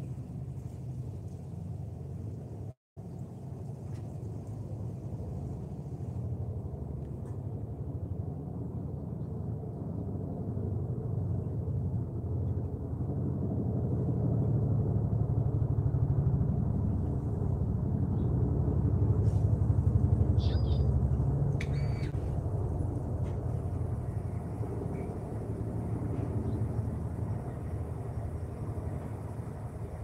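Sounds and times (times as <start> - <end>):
pulsing mechanical rumble: 0.0 - 30.0.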